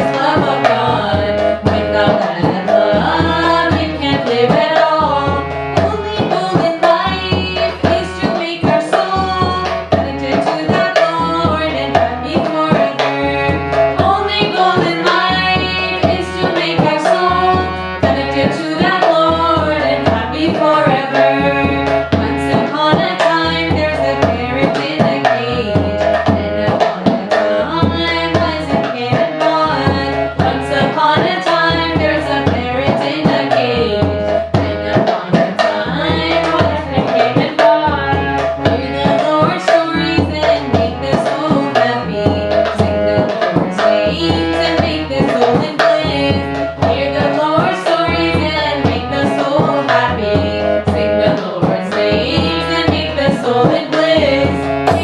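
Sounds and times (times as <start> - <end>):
instrumental melody: 0.0 - 55.0
tabla drumming: 0.0 - 55.0.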